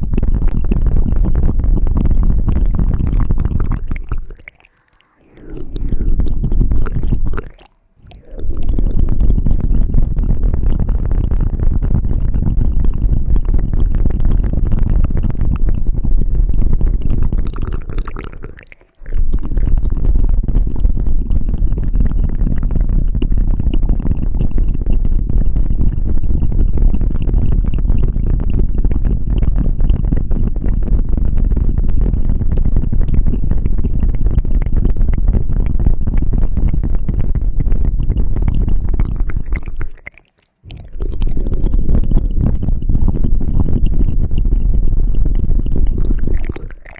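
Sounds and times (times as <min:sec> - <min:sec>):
deep muffled rumble: 0:00.0 - 0:04.4, 0:05.2 - 0:40.0, 0:40.7 - 0:46.9
rubbing and crackling on microphone: 0:00.0 - 0:46.9.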